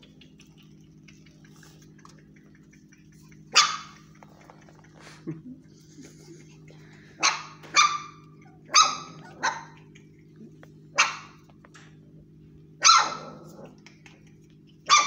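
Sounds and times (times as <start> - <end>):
puppies yapping: 0.0 - 5.2, 6.9 - 11.7, 12.8 - 15.0
steady low hum: 0.0 - 15.0.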